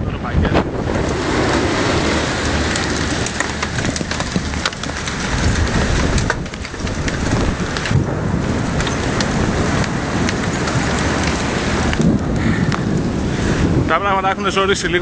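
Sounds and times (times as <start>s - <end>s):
heavy rain on hard surfaces: 0.0s - 15.0s
low rumble: 0.0s - 15.0s.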